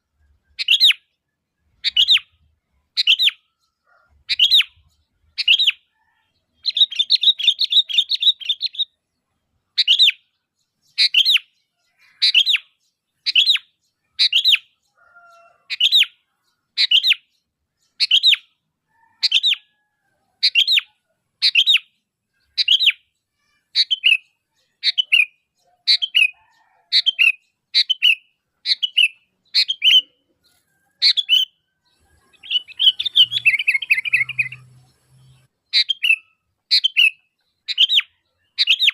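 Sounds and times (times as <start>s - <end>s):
bulbul chattering and calling: 1.8s - 9.0s, 9.7s - 38.9s.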